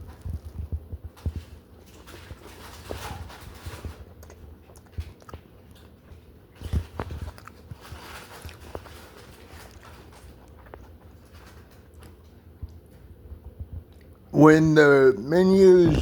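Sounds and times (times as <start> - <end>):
person chewing crunchy food: 0.0 - 14.2.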